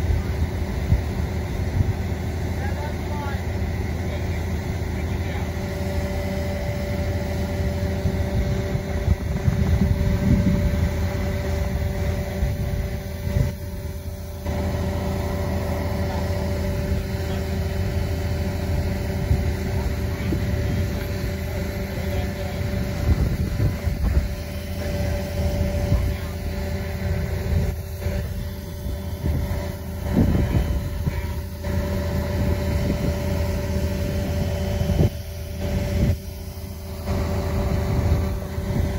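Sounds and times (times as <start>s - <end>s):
diesel engine rumble: 0.0s - 38.9s
steady machine whine: 0.0s - 38.9s.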